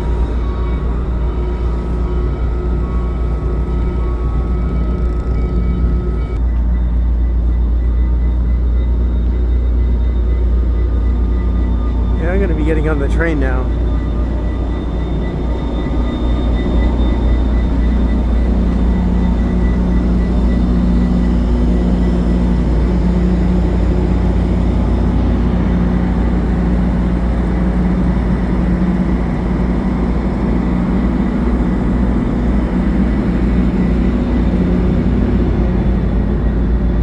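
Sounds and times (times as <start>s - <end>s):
diesel train idling: 0.0s - 37.0s.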